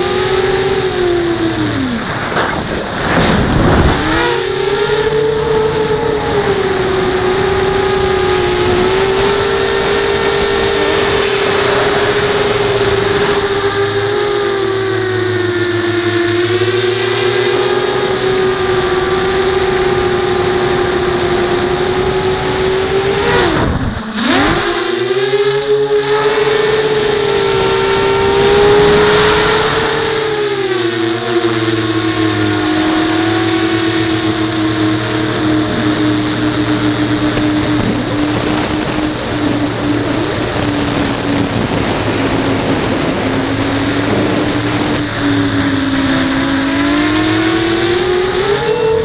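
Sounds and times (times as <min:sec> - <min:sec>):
quadcopter motors whining: 0:00.0 - 0:49.0.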